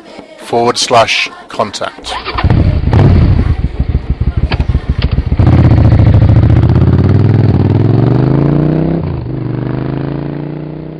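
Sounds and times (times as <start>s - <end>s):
motorcycle engine revving: 2.1s - 10.9s.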